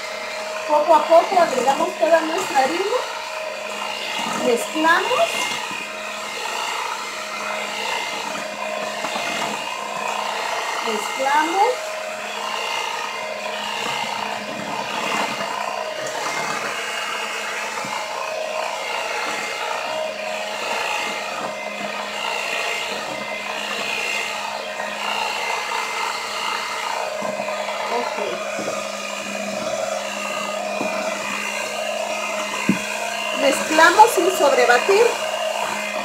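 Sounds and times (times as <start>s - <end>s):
stand mixer running: 0.0s - 36.0s.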